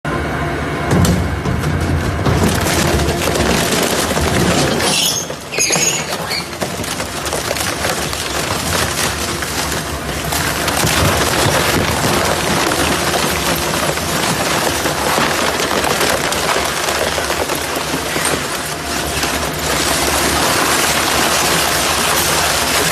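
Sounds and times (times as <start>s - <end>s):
shredder crunching metal and plastic: 0.9s - 22.9s.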